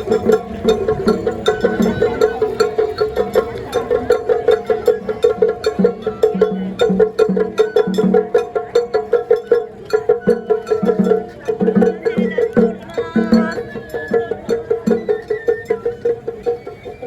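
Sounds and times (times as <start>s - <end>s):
percussion steady beat: 0.0s - 17.0s.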